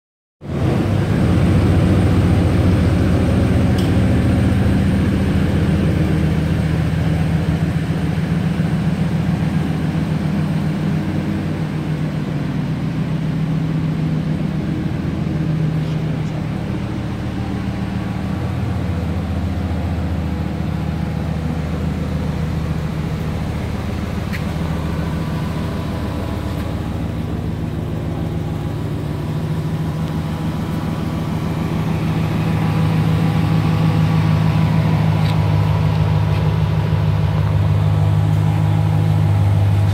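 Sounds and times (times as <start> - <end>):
pickup engine running: 0.4 - 39.9.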